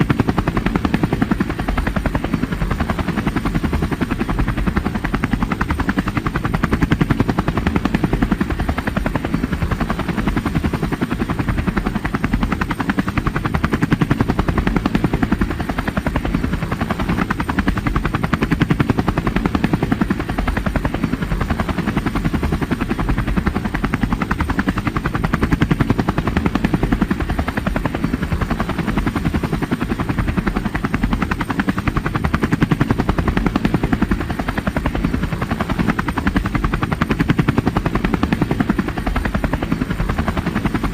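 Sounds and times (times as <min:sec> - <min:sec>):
helicopter engine drone: 0:00.0 - 0:40.9
helicopter rotor beating: 0:00.0 - 0:40.9.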